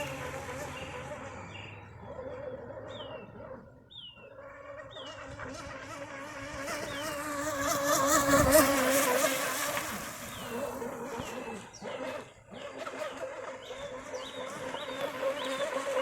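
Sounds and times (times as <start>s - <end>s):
rc boat motor whine: 0.0s - 16.0s.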